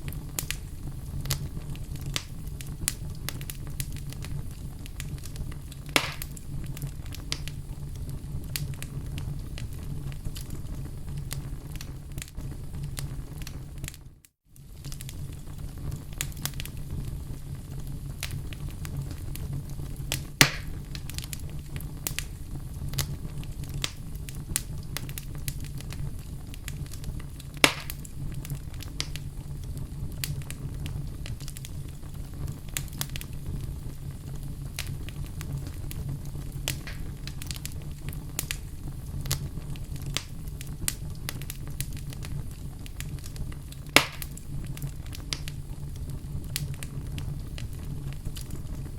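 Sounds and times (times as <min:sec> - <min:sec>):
fire crackling in fireplace: 0:00.0 - 0:48.9
loud pops from fire: 0:00.0 - 0:48.9.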